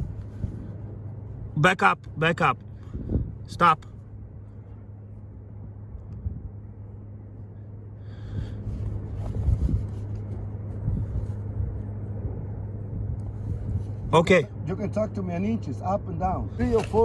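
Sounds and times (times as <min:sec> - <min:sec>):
low rumbling hum: 0:00.0 - 0:17.0.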